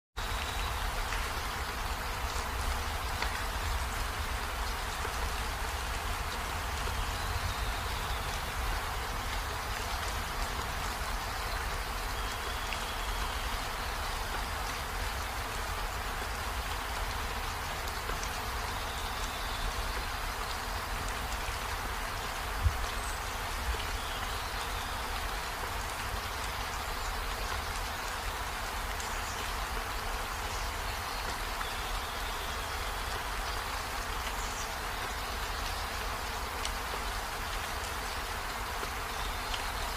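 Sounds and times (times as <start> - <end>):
steady rain falling: 0.2 - 39.9.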